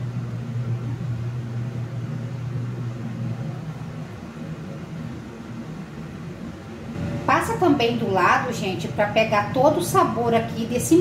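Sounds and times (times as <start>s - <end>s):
air fryer fan humming: 0.0s - 11.0s.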